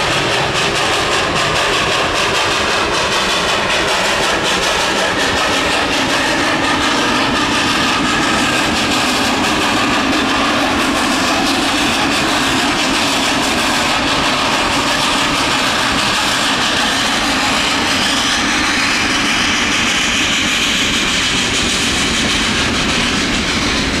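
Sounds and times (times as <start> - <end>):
steam locomotive passing: 0.0 - 24.0.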